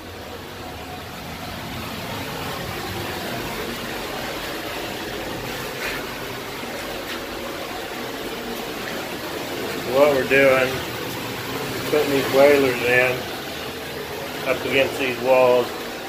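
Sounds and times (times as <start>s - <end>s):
motor or fan humming: 0.0s - 16.0s.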